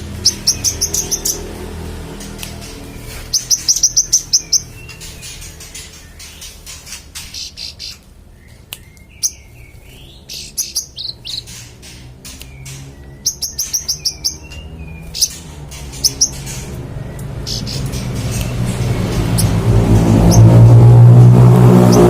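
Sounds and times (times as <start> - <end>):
songbird chirping and trilling: 0.0 - 22.0.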